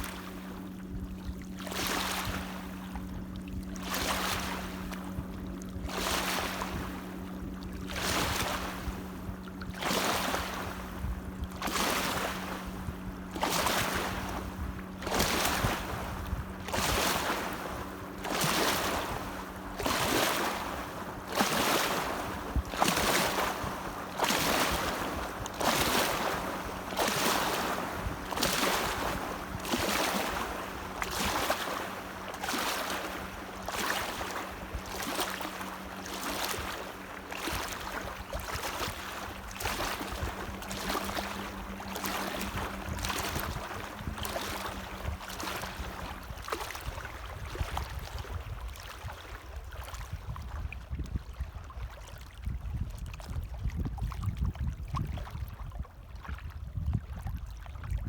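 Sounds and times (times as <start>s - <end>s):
steady low hum: 0.0s - 48.4s
low wind rumble: 0.0s - 51.7s, 52.4s - 58.0s
small waves lapping: 0.0s - 58.0s.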